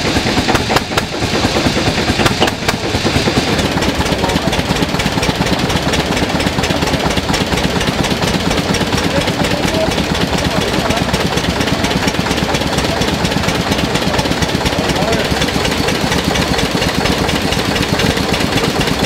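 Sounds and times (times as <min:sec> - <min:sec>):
sharp irregular bangs: 0:00.0 - 0:19.0
stationary engines chugging: 0:00.0 - 0:19.0.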